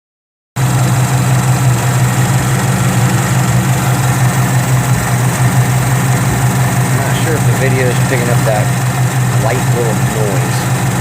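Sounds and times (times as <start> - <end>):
car engine idling: 0.6 - 11.0
oil pump gear noise: 1.0 - 11.0.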